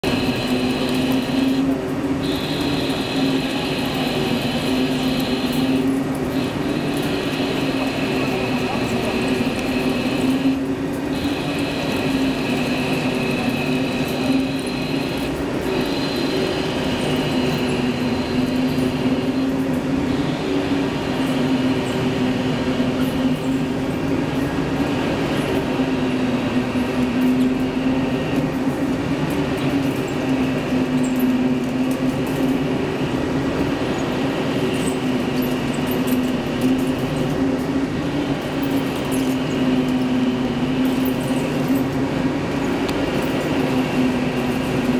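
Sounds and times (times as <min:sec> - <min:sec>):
lathe machine drone: 0:00.0 - 0:44.9.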